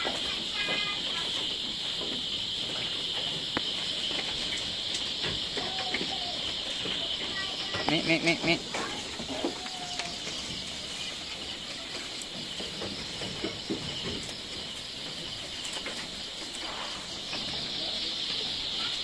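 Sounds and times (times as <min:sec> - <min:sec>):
rustling of leaves: 0:00.0 - 0:19.0
steady high hiss: 0:00.0 - 0:19.0.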